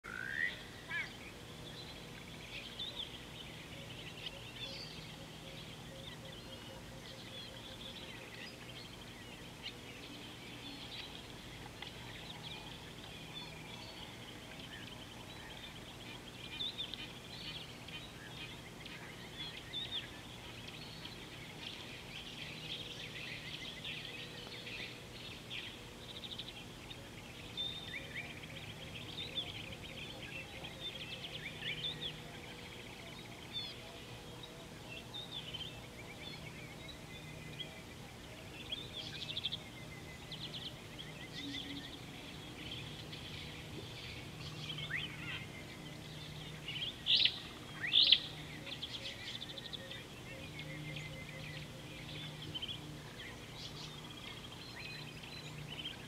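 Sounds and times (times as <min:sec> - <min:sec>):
birds chirping and trilling: 0:00.0 - 0:56.0
faint low hum: 0:00.1 - 0:56.0.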